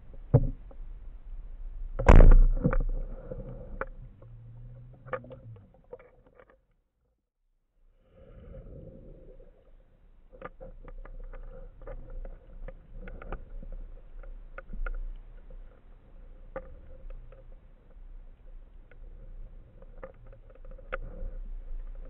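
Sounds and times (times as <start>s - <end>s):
low rumble of moving water: 0.0s - 22.0s
sharp underwater clicks and crackles: 1.8s - 6.8s, 8.8s - 22.0s.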